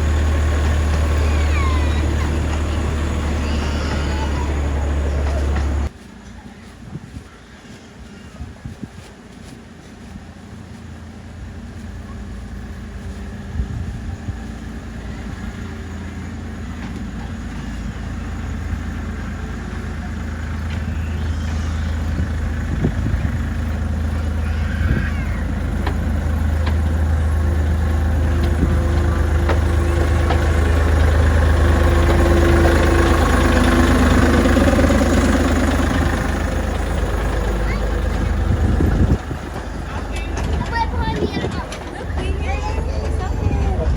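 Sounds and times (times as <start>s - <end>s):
miniature tram engine hum: 0.0s - 43.9s.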